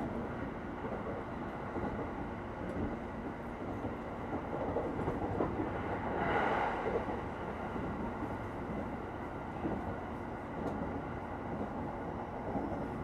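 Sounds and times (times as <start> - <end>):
train carriage equipment hum: 0.0 - 13.0.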